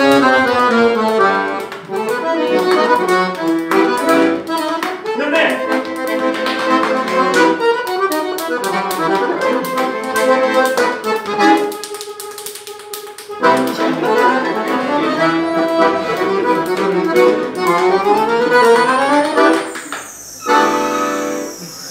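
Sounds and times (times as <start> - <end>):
piano accordion playing lively tune: 0.0 - 21.9.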